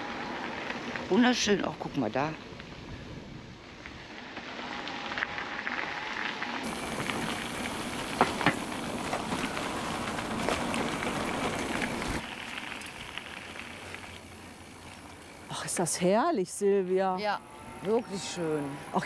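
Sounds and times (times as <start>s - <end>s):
bicycle tyres on crunchy track: 0.0s - 19.0s.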